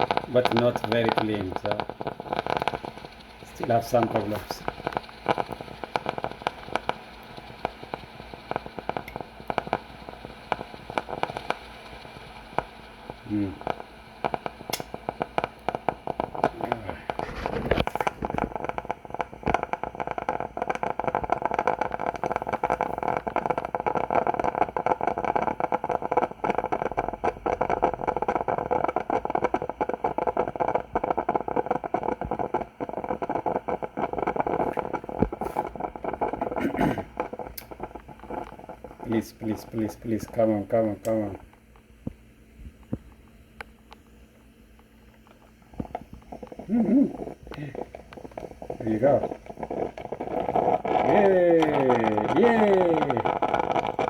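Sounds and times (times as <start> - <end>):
water sputtering and crackling: 0.0 - 43.2, 45.1 - 54.0
coffee machine running: 0.0 - 54.0.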